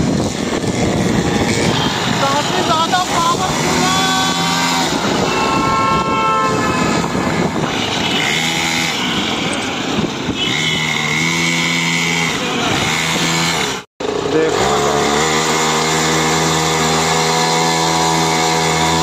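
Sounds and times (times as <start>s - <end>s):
small petrol engine revving: 0.0s - 19.0s.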